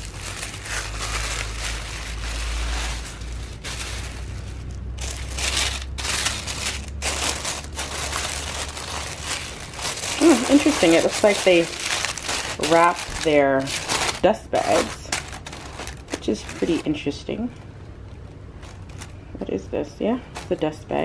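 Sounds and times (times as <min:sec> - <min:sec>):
tissue paper rustling: 0:00.0 - 0:17.4, 0:18.6 - 0:19.6, 0:20.2 - 0:20.7
steady low hum: 0:00.0 - 0:21.0.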